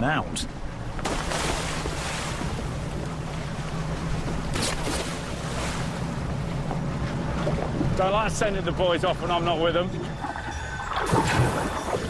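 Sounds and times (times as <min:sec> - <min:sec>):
boat engine running: 0:00.0 - 0:12.0
water noise: 0:00.0 - 0:12.0
wind: 0:00.0 - 0:12.0.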